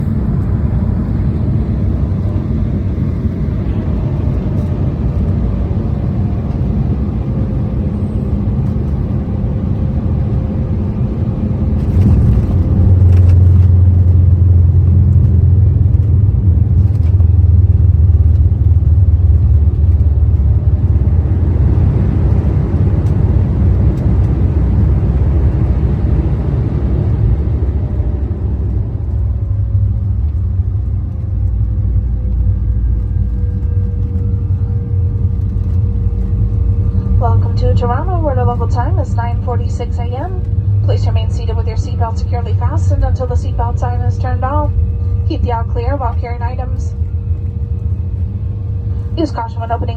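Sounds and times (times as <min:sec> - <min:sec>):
airliner cabin engine rumble: 0:00.0 - 0:49.9
jet reverse thrust roar: 0:00.0 - 0:49.9.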